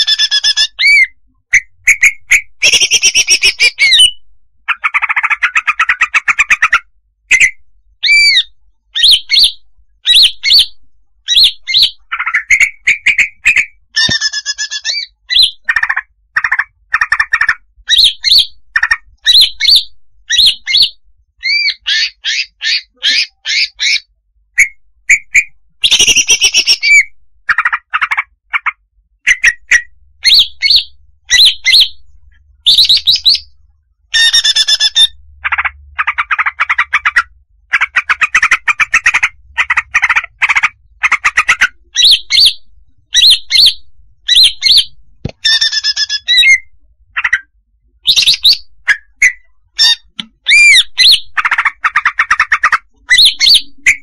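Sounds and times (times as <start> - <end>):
bird chirping and trilling: 0.0 - 54.0.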